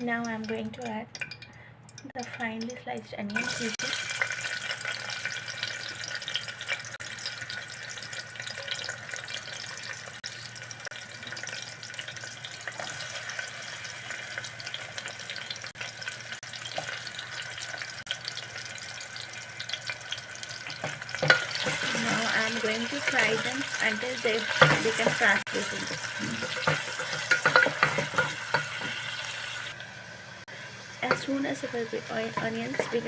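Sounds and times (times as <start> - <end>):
onions sizzling in hot oil: 2.1 - 33.0.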